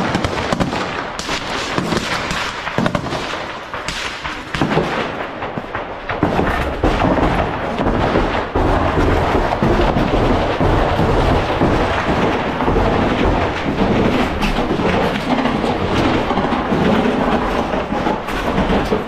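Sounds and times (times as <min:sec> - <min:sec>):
loud continuous rumbling: 0:00.0 - 0:19.0
sharp cracks: 0:00.0 - 0:19.0.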